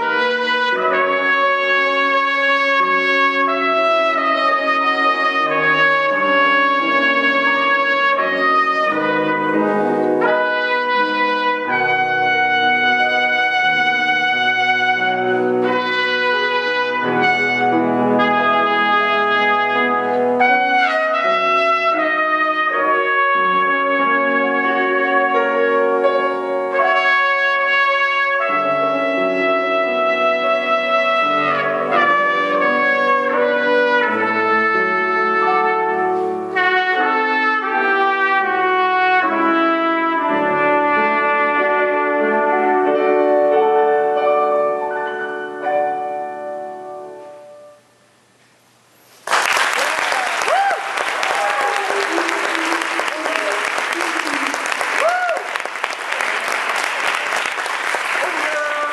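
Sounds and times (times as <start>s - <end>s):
trumpet playing classical piece: 0.0s - 47.9s, 50.8s - 58.9s.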